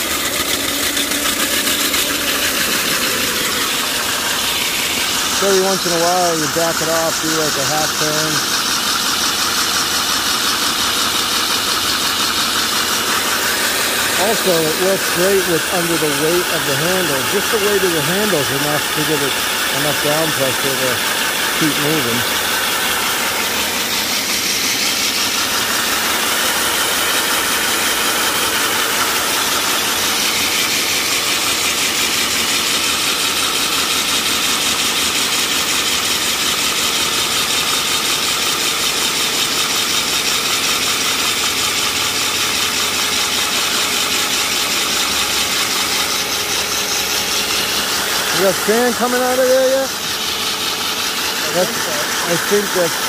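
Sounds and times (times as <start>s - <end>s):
core drill grinding through asphalt: 0.0s - 53.0s.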